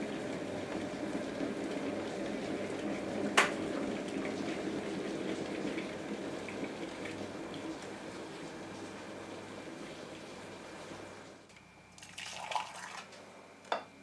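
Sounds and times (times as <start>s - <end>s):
kettle heating water: 0.0s - 14.0s.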